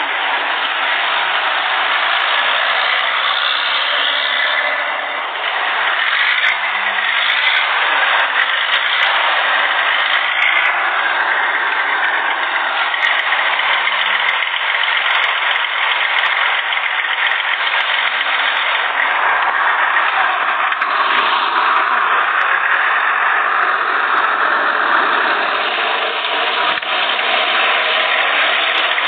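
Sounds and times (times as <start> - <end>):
diesel bus engines idling: 0.0 - 29.0.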